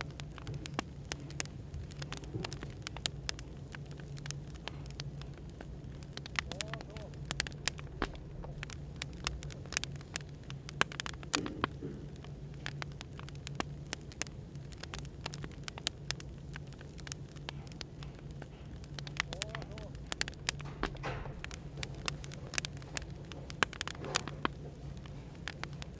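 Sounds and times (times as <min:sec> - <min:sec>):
cafe background hum: 0:00.0 - 0:25.9
firewood crackling and popping: 0:00.0 - 0:25.9.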